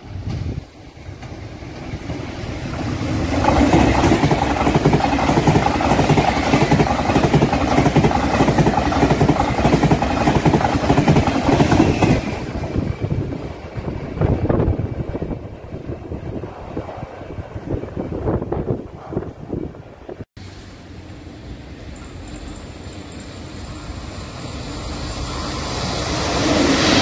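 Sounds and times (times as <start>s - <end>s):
express train passing at speed: 0.0s - 27.0s.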